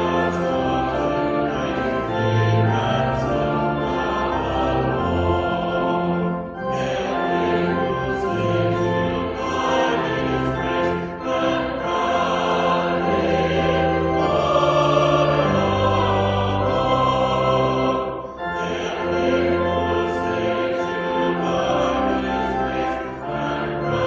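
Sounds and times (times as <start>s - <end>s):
choir singing a hymn: 0.0s - 24.0s
pipe organ: 0.0s - 24.0s.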